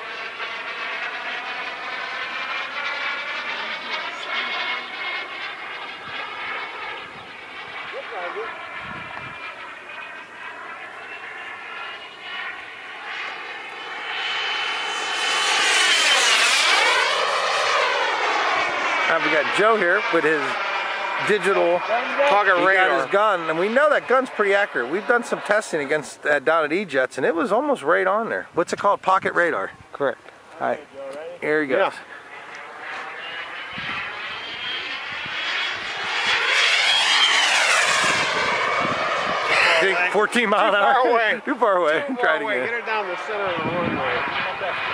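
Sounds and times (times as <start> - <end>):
model jet turbine whine: 0.0 - 44.9.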